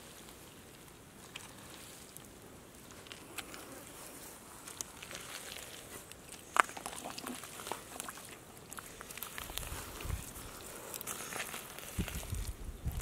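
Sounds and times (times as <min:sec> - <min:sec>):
small crackles and clicks: 0:00.1 - 0:13.0
hands squelching through mud: 0:01.2 - 0:13.0.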